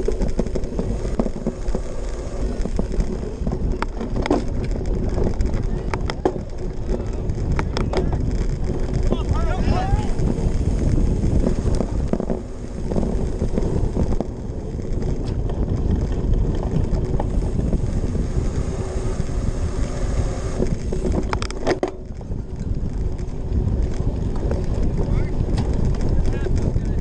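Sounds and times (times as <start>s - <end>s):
bike rattling: 0.0s - 27.0s
tyres rumbling on grass: 0.0s - 27.0s
wind buffeting microphone: 0.0s - 27.0s.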